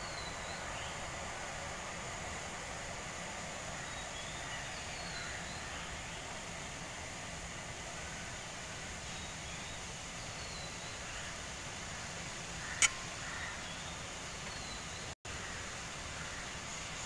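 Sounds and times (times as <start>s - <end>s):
water boiling hiss: 0.0s - 17.0s.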